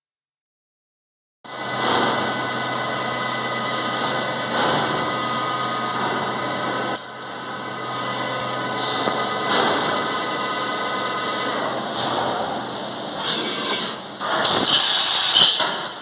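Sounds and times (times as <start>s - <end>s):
machining centre humming: 1.5s - 14.7s.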